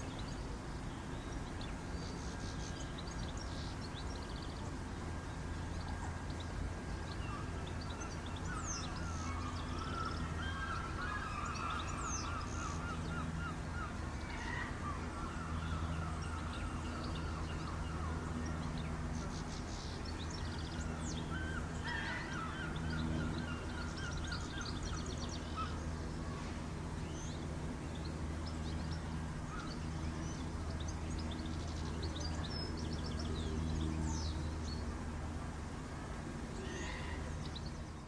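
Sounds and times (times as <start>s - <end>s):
birds calling and trilling: 0.0s - 38.0s
steady low hum: 0.0s - 38.0s.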